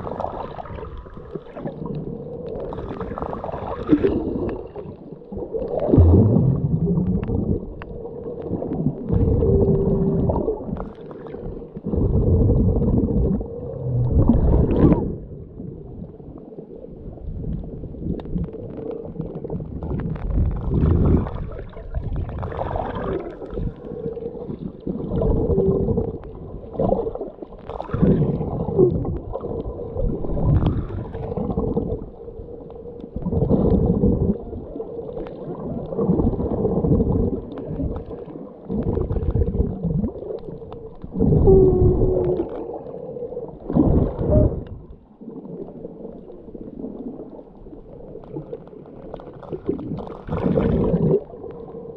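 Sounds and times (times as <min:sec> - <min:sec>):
muffled underwater sloshing: 0:00.0 - 0:51.9.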